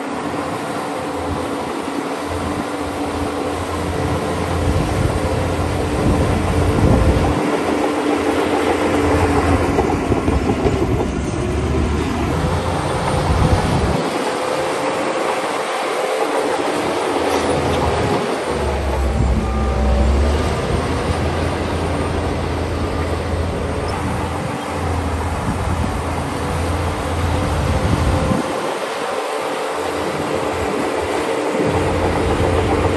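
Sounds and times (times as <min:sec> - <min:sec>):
bulldozer diesel engine rumbling: 0:00.2 - 0:15.0, 0:16.7 - 0:28.8, 0:29.4 - 0:32.9
metallic clatter of tracks: 0:04.4 - 0:25.0, 0:26.5 - 0:32.9.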